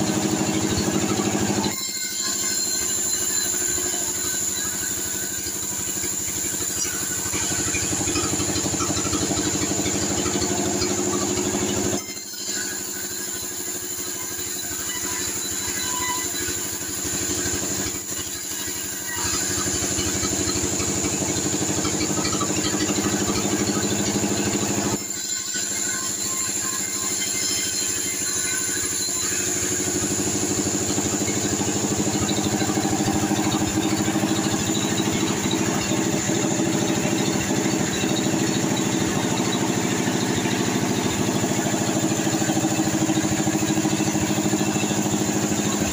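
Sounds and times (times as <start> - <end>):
band sawmill sawing wood: 0.0 - 45.9.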